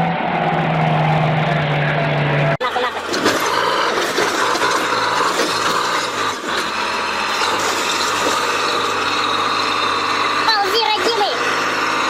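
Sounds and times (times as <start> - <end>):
diesel earthmover engine humming: 0.0 - 12.0.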